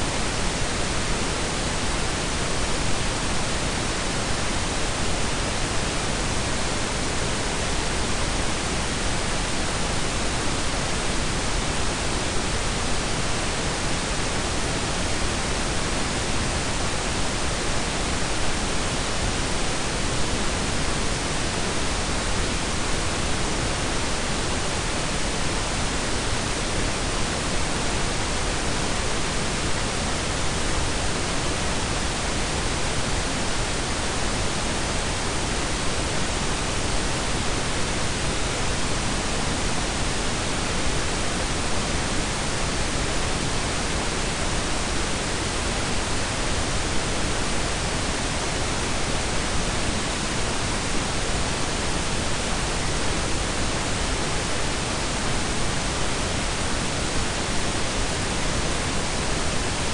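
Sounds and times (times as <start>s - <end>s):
pink and brown noise: 0.0s - 59.9s.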